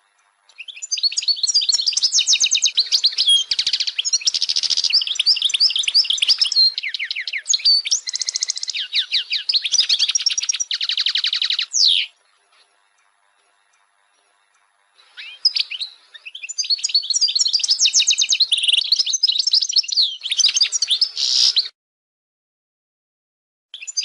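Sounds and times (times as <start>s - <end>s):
finch twittering song: 0.0s - 21.8s, 23.8s - 24.0s.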